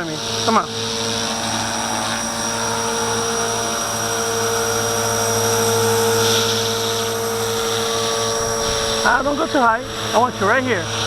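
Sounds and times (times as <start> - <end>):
electric motor whine: 0.0 - 11.0
helicopter rotor drone: 0.0 - 11.0.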